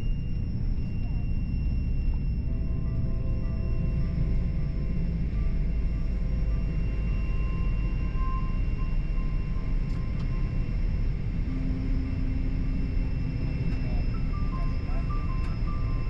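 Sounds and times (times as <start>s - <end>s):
aircraft cabin rumble: 0.0s - 16.0s
faint high tones: 0.0s - 16.0s
low hum: 0.0s - 16.0s.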